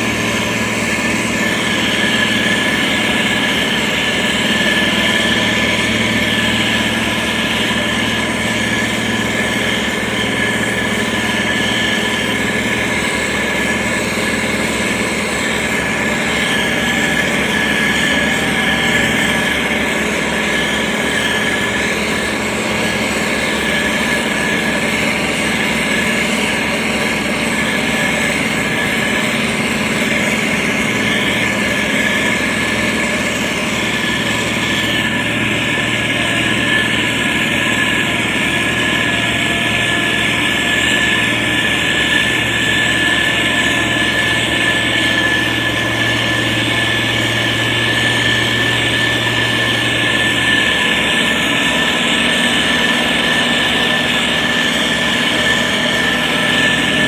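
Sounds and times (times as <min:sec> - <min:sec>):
diesel engine drone: 0:00.0 - 0:57.0
high whine: 0:00.0 - 0:57.0.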